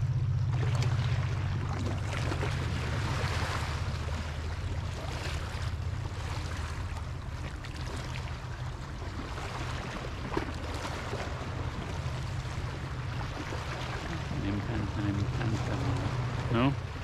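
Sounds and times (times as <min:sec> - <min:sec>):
waves lapping against rocks: 0:00.5 - 0:17.0.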